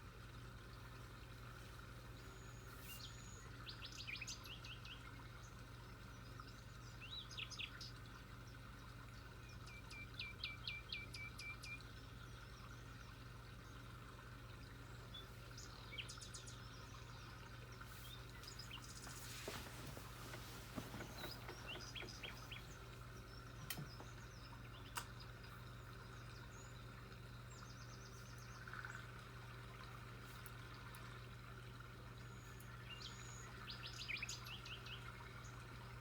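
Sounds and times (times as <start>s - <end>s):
faint low hum: 0.0s - 36.0s
birds chirping: 0.6s - 8.6s, 9.2s - 35.9s.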